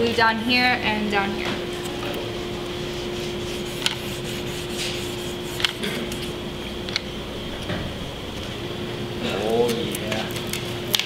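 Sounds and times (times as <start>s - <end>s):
room noise hum: 0.0s - 11.0s.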